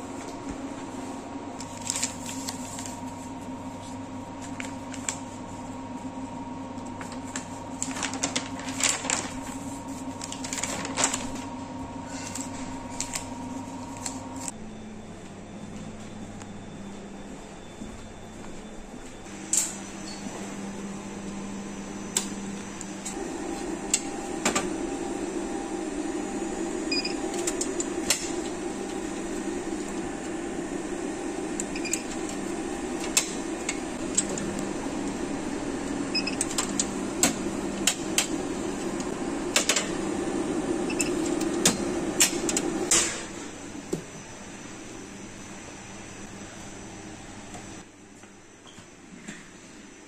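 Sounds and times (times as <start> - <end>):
appliance hum: 0.0 - 50.0.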